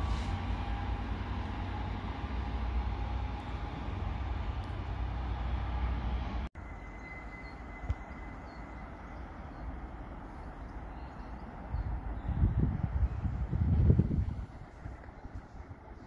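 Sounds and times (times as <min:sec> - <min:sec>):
distant train rumbling: 0:00.0 - 0:16.0
outdoor background noise: 0:00.0 - 0:16.0.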